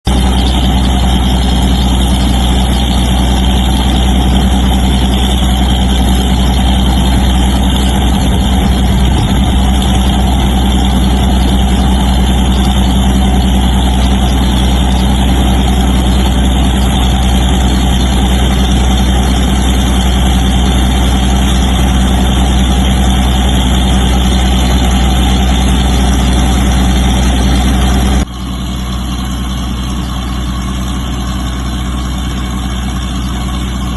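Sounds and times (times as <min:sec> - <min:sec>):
mill machinery drone: 0:00.1 - 0:33.9.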